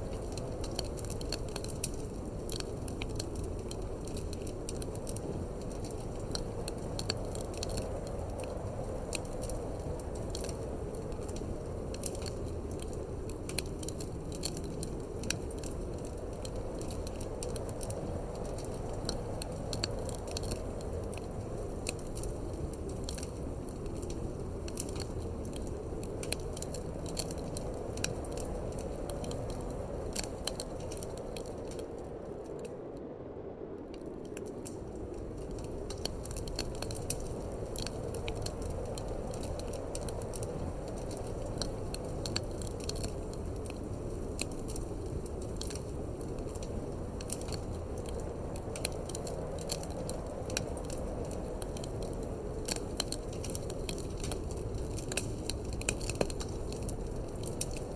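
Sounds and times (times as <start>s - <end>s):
low rush of wind: 0.0s - 57.9s
wood fire crackling: 0.0s - 57.9s.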